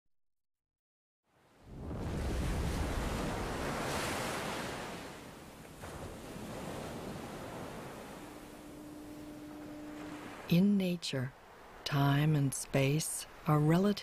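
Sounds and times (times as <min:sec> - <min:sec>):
ocean waves breaking: 0:01.3 - 0:13.6.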